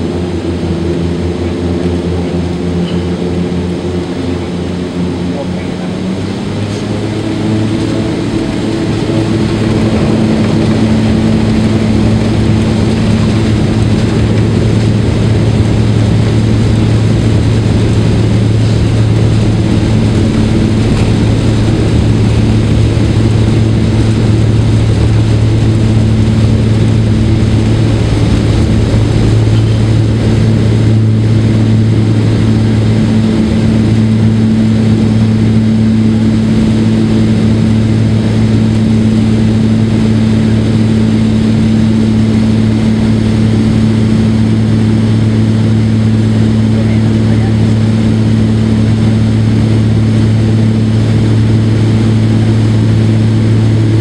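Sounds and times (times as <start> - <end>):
turboprop engine drone: 0.0 - 54.0
rushing noise: 5.9 - 54.0.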